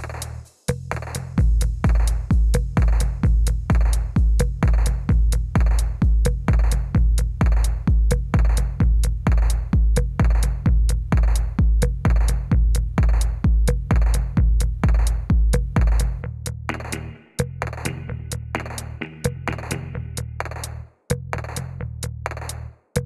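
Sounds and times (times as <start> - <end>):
electronic music with drum-machine beat: 0.0 - 20.8.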